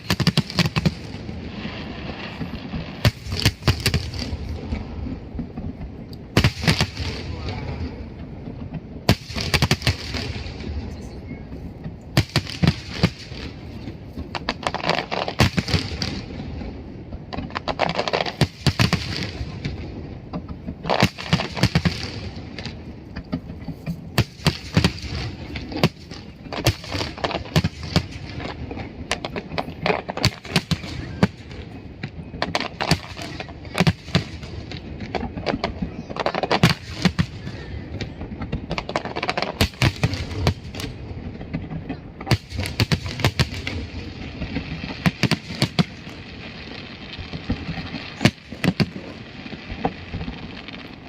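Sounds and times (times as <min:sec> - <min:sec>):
fireworks crackling: 0:00.0 - 0:51.0.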